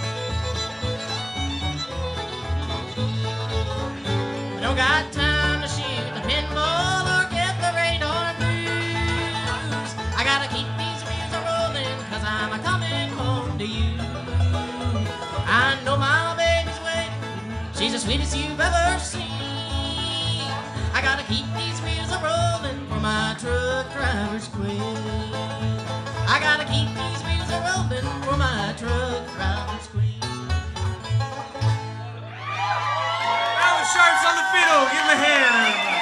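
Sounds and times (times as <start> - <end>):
acoustic guitar: 0.0 - 32.4
banjo: 0.0 - 32.7
fiddle: 0.0 - 36.0
upright bass: 0.0 - 36.0.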